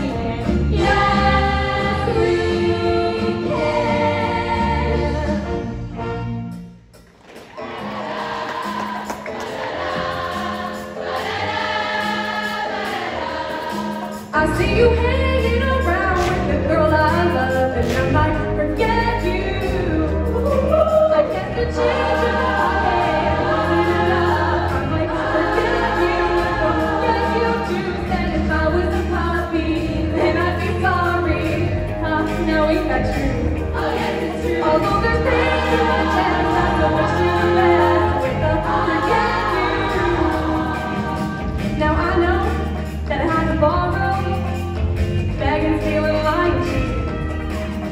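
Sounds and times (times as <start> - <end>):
women singing together: 0.0 - 5.4, 8.0 - 44.2
instrumental accompaniment: 0.0 - 47.9.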